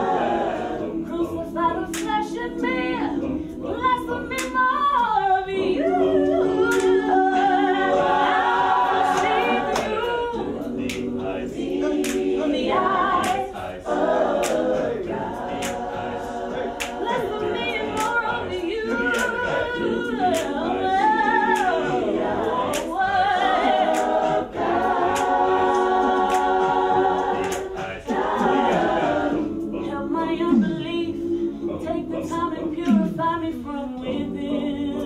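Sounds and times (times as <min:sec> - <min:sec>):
woman singing lead vocal: 0:00.0 - 0:15.8, 0:16.8 - 0:26.5, 0:27.5 - 0:35.0
gospel group singing in harmony: 0:00.0 - 0:35.0.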